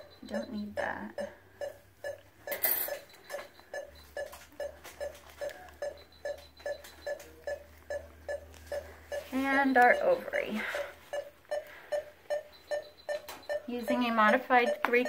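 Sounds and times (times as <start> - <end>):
patient monitor beeping: 0.0 - 15.0.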